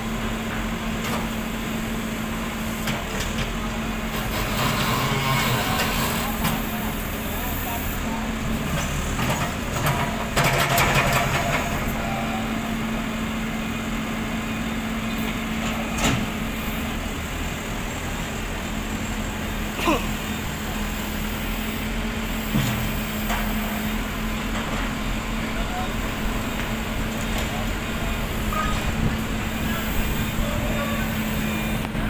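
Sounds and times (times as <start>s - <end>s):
diesel engine humming: 0.0s - 32.0s.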